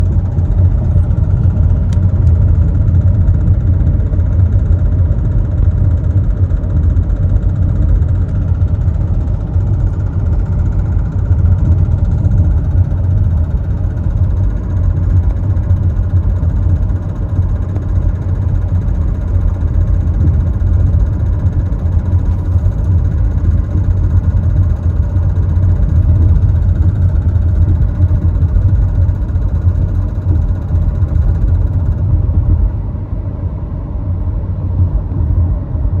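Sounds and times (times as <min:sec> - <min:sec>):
car engine and road noise drone: 0:00.0 - 0:36.0.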